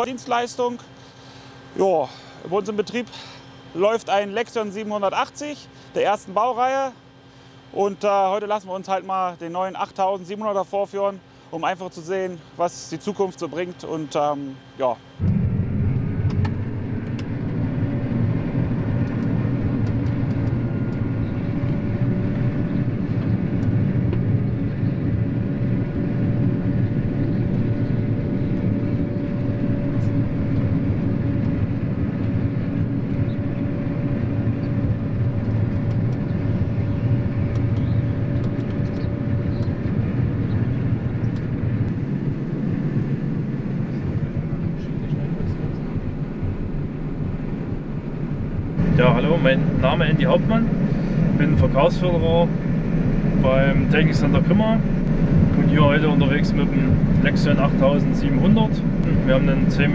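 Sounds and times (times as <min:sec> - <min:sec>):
combine harvester rumbling: 0:00.0 - 0:14.6, 0:15.2 - 0:59.9
steady machine whine: 0:00.0 - 0:59.9.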